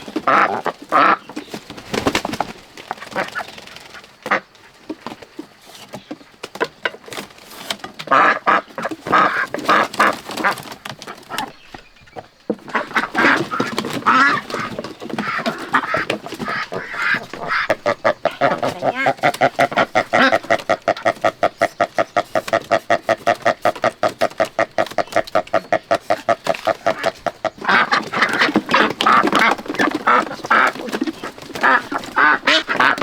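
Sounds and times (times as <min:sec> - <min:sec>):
ducks quacking: 0:00.0 - 0:05.0, 0:08.0 - 0:11.8, 0:12.5 - 0:33.0.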